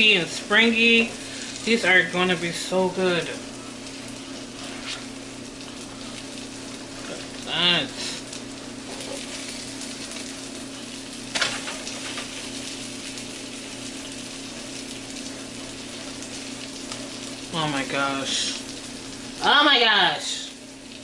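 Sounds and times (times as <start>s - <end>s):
bread sizzling in a pan: 0.0s - 21.0s.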